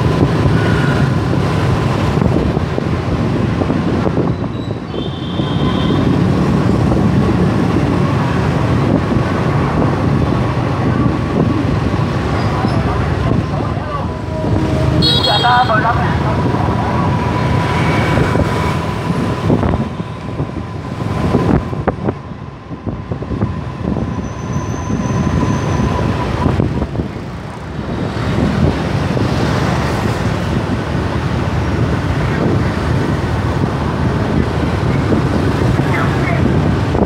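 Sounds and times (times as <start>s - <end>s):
scooter engine and road noise: 0.0s - 37.0s
street traffic: 0.0s - 37.0s.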